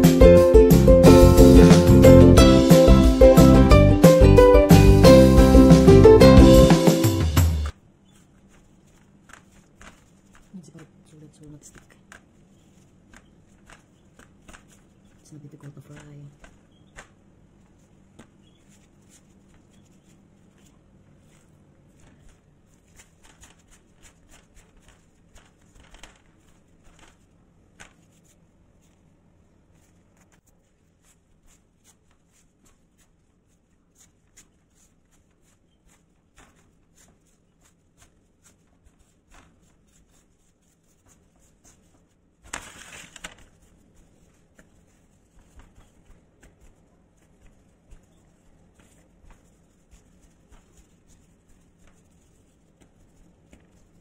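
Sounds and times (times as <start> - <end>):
soft rustles of flour: 7.7 - 54.0.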